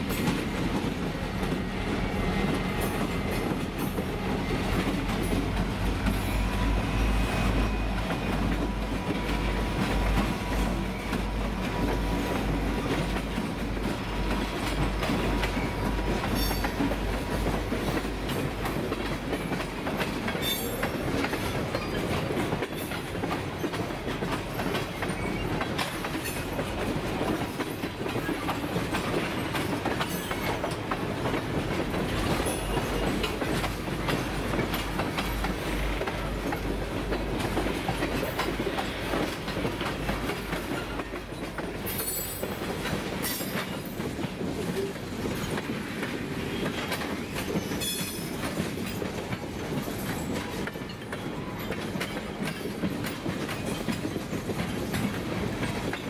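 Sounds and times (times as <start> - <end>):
freight train rumble: 0.0 - 56.0
train wheels clicking over rail joints: 0.0 - 56.0.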